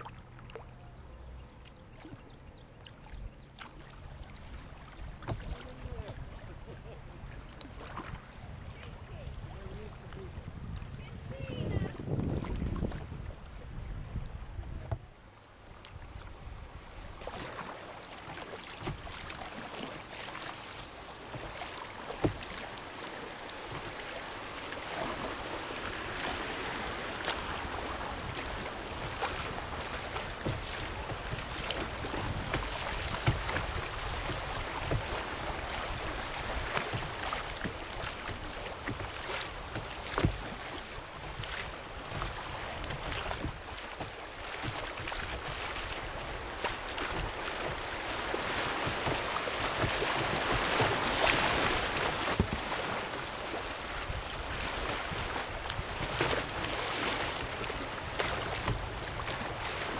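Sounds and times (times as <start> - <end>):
river water rushing: 0.0 - 2.2, 2.8 - 59.9
water splashing against boat: 0.0 - 59.9.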